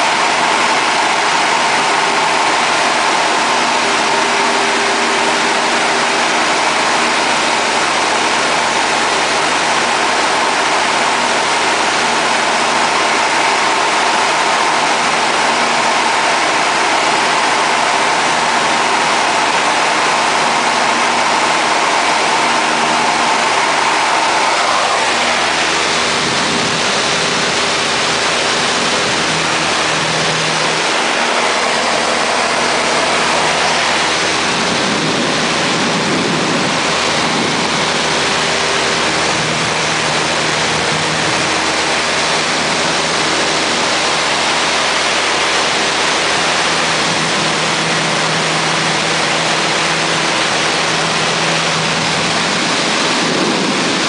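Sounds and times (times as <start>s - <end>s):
aircraft engine and propeller drone: 0.0s - 54.0s
rush of air: 0.0s - 54.0s.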